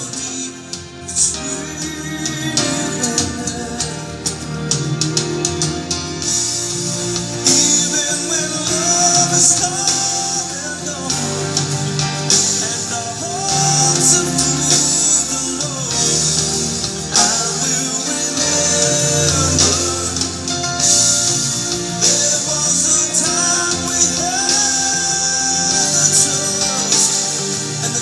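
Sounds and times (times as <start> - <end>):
song with singing and guitar: 0.0 - 28.0.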